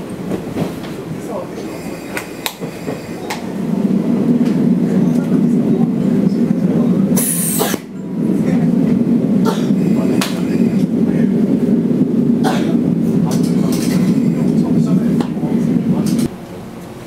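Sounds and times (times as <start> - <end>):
diesel railcar running: 0.0 - 17.0.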